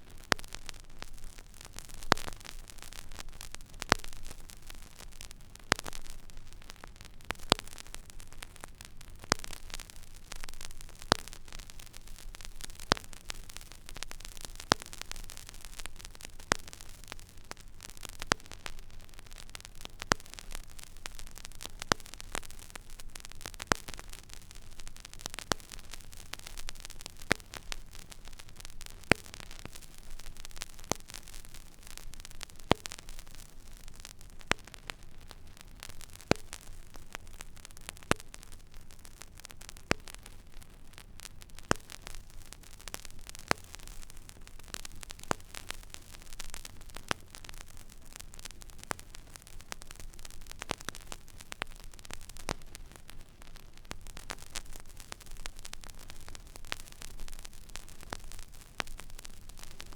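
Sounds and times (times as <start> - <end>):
vinyl surface hiss and crackle: 0.0 - 59.9.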